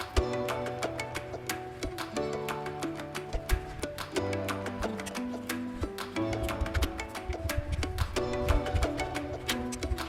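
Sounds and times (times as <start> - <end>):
melodic background music: 0.0 - 10.0
ticking beat: 0.0 - 10.0.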